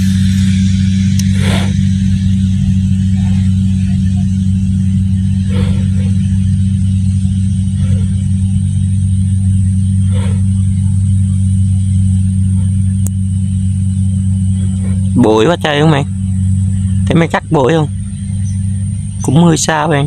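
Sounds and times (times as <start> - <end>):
combine harvester engine drone: 0.0 - 20.0
thin high whine: 0.0 - 20.0.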